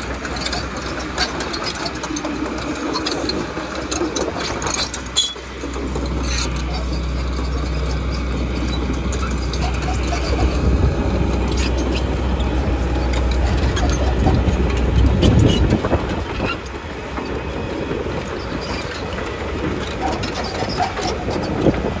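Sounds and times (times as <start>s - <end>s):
diesel engine rumble: 0.0s - 22.0s
track links clanking and rattling: 0.0s - 22.0s.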